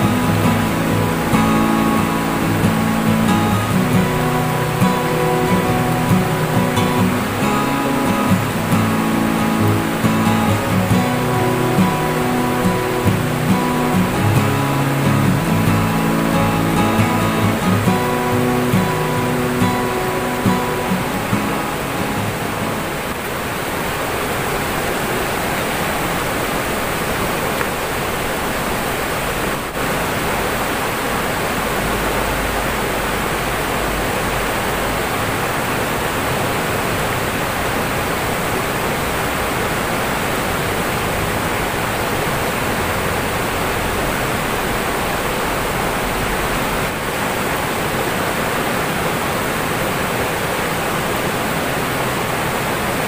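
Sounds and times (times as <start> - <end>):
river water rushing over rocks: 0.0 - 53.0.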